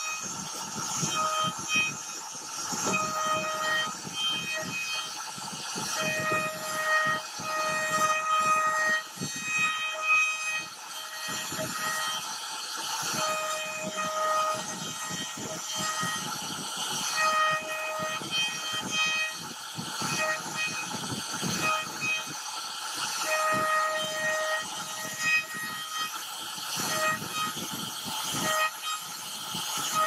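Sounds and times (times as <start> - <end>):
machine whine: 0.0 - 30.0
router bit crackling through wood: 0.0 - 30.0.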